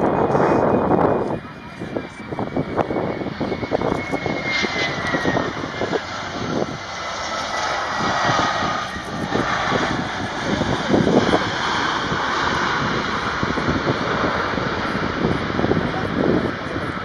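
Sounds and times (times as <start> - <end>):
jet engines whining on landing: 0.0 - 17.0.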